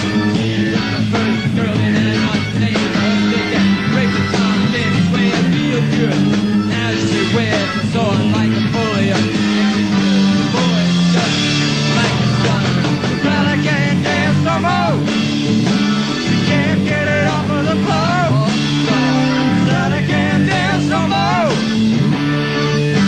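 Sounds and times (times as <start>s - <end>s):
bass guitar: 0.0s - 23.0s
drums: 0.0s - 23.0s
electric guitar lead with bent notes: 0.0s - 23.0s.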